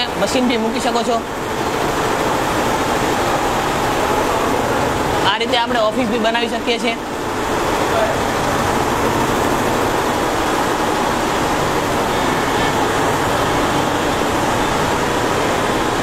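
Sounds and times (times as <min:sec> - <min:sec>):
embroidery machines running: 0:00.0 - 0:16.0.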